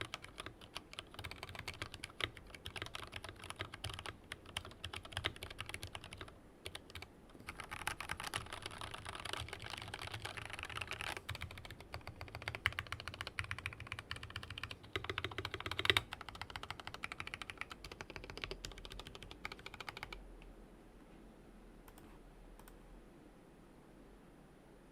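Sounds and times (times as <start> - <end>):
fast typing on mechanical keyboard: 0.0 - 20.2.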